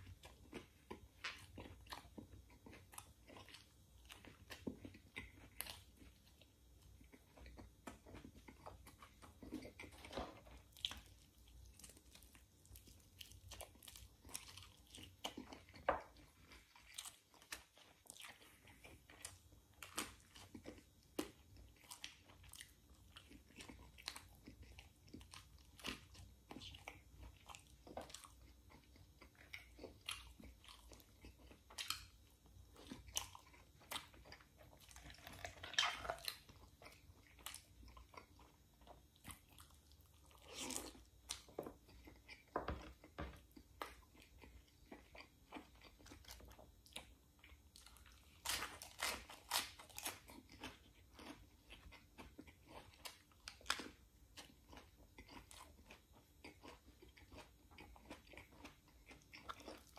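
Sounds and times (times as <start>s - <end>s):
person chewing close to microphone: 0.0s - 59.9s.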